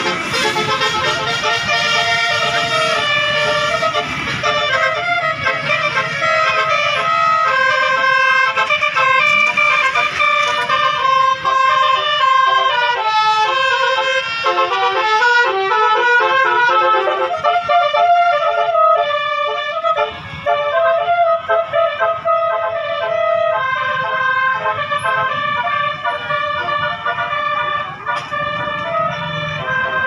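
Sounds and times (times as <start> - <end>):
multi-tone air horn melody: 0.0 - 30.0.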